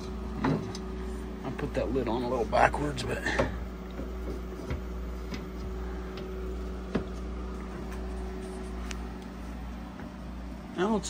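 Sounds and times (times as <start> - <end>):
printer fan and motor hum: 0.0 - 11.0.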